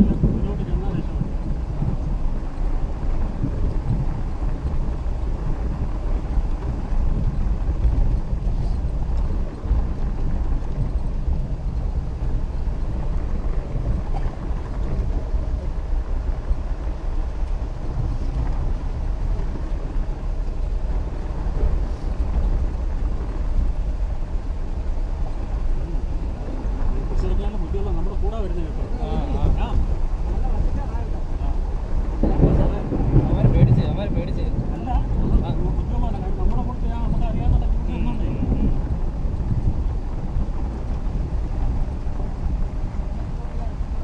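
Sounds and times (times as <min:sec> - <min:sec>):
rain hissing on vehicle: 0:00.0 - 0:44.0
vehicle rumbling on dirt track: 0:00.0 - 0:44.0.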